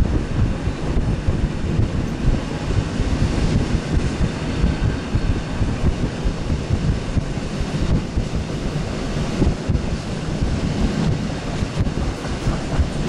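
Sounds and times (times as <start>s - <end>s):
train wheels rumbling on rails: 0.0s - 13.0s
wind on microphone: 0.0s - 13.0s.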